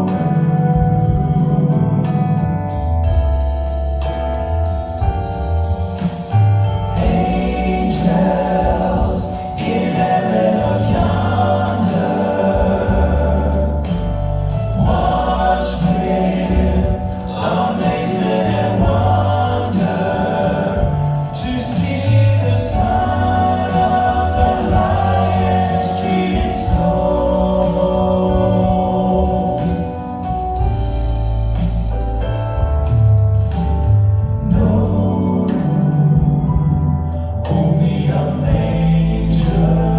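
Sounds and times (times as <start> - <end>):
vocal group singing in harmony: 0.0 - 3.2, 6.0 - 30.8, 34.4 - 39.9
band playing: 0.0 - 36.9.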